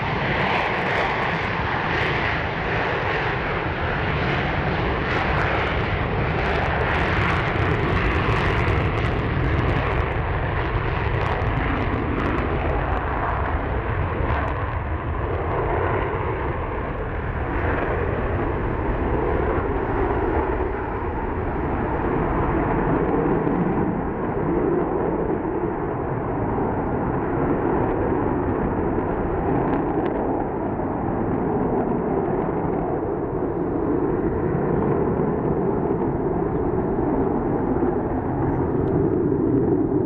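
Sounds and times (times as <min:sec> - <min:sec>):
jet taking off: 0:00.0 - 0:40.0.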